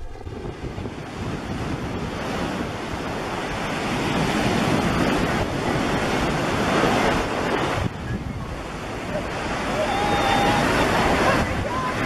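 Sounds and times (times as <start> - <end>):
ocean surf breaking on beach: 0.0 - 12.0
wind on microphone: 0.0 - 12.0.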